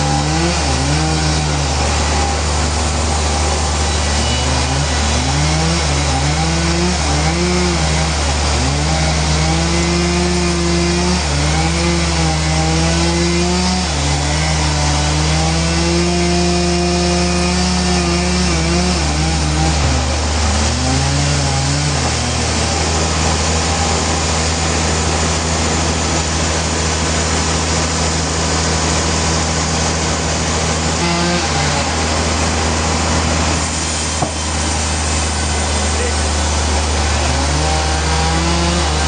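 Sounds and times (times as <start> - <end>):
sawmill saw cutting log: 0.0 - 39.0.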